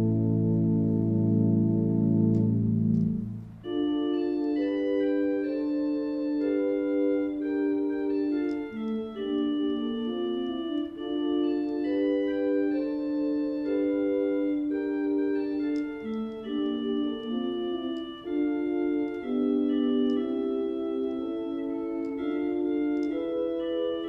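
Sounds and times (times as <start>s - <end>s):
organ playing hymn chords: 0.0s - 24.0s.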